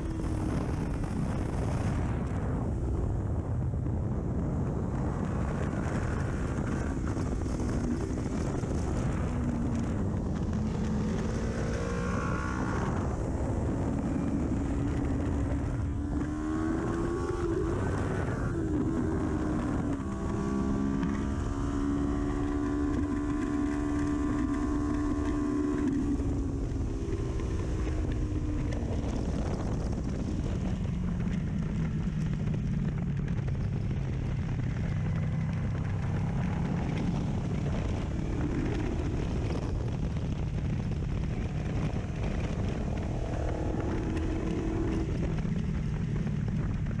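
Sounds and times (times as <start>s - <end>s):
motorcycle engine revving: 4.9s - 47.0s.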